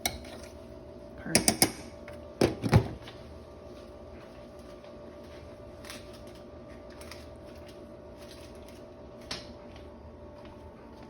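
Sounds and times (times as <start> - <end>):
appliance hum: 0.0 - 11.0.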